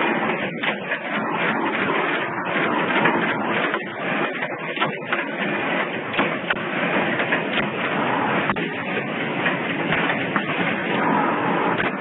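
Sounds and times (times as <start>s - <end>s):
machine mechanical clatter: 0.0s - 12.0s.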